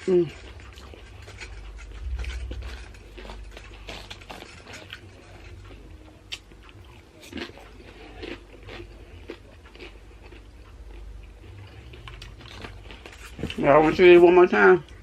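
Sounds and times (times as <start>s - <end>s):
chewing crunchy tortilla chips: 0.0s - 15.0s.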